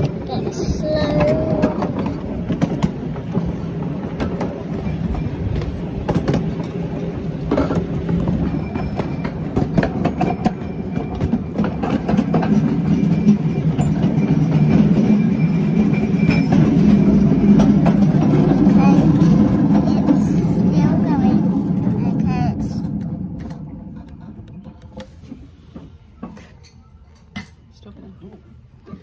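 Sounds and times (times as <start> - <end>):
wheels clacking over rails: 0.0 - 27.6
train rolling on track: 0.0 - 29.0.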